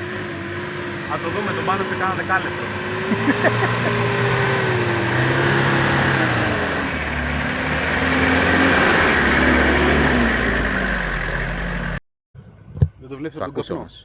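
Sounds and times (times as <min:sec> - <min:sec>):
engine running under throttle: 0:00.0 - 0:12.0.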